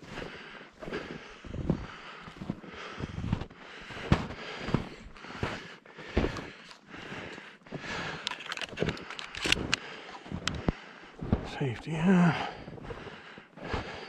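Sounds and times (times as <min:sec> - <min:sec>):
footsteps crunching: 0:00.9 - 0:14.0.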